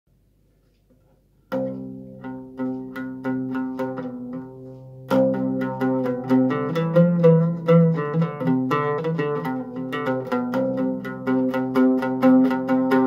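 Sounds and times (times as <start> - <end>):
plucked oud notes: 1.5 - 13.0.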